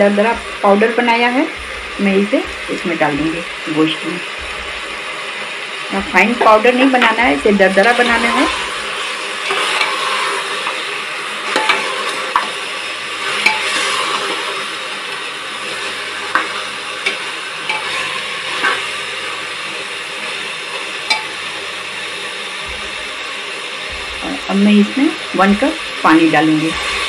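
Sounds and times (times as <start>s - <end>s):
meat sizzling in a pot: 0.0s - 27.0s.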